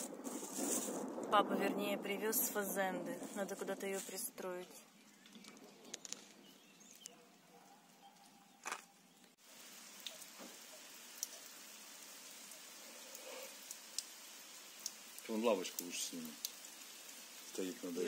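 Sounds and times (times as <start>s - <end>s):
light rain hissing: 0.0s - 7.2s, 9.1s - 18.0s.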